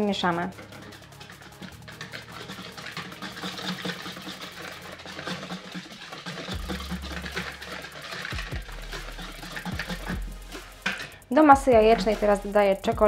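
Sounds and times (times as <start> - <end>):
whisk clicking against bowl: 0.2 - 11.3.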